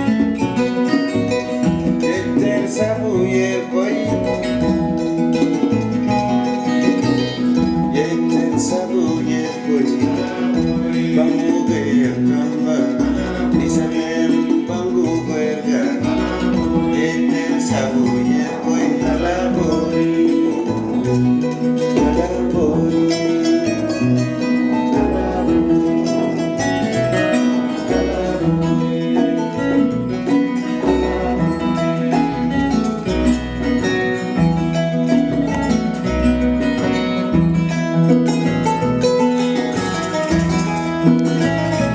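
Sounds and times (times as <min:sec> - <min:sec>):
plucked guitar music with bass: 0:00.0 - 0:41.9.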